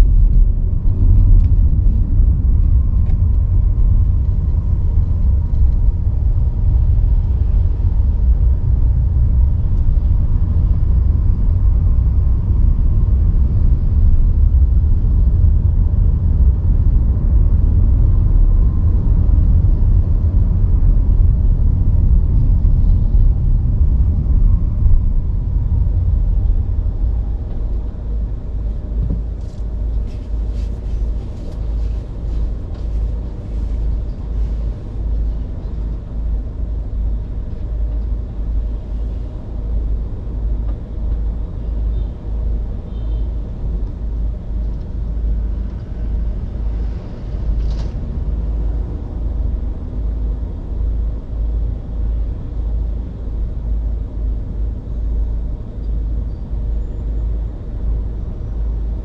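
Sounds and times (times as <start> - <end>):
car road and wind rumble: 0.0 - 59.0.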